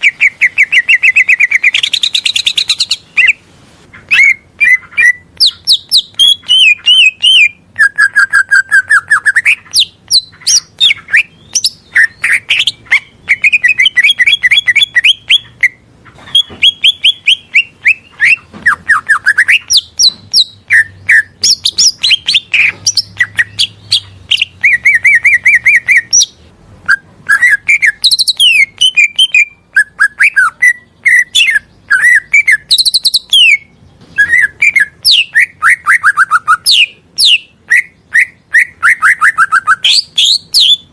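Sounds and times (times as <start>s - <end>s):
bird singing fast varied song: 0.0s - 3.4s, 4.0s - 40.9s.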